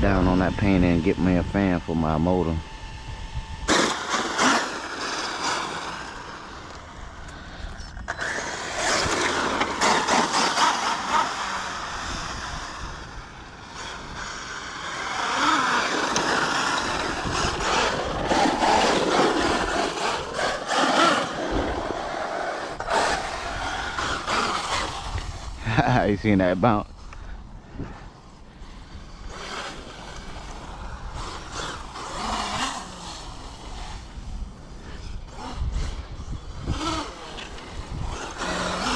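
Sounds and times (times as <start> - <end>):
electric rc truck driving: 0.0 - 38.9.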